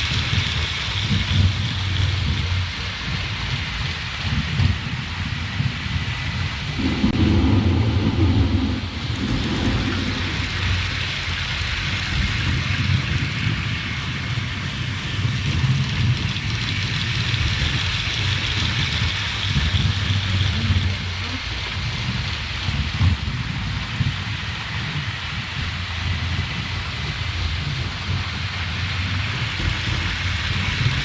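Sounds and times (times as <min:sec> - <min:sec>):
rain hiss: 0:00.0 - 0:31.0
rolling thunder rumble: 0:00.0 - 0:31.0.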